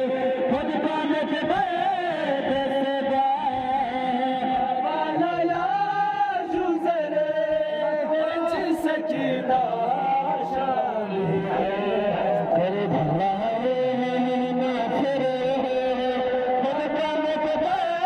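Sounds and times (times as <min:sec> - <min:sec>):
men chanting a lament: 0:00.0 - 0:18.0
person singing into a microphone: 0:00.0 - 0:18.0.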